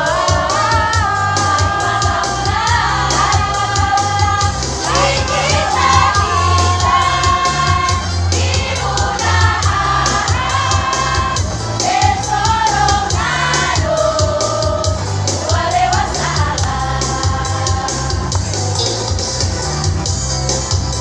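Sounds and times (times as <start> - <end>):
choir singing long notes: 0.0 - 18.3
accompaniment with bass and beat: 0.0 - 21.0.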